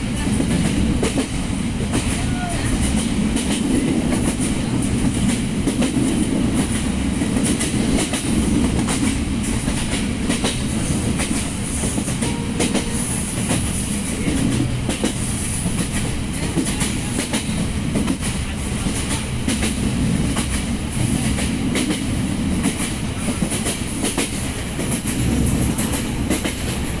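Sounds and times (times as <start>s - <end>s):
wheels rumbling on rails: 0.0s - 27.0s.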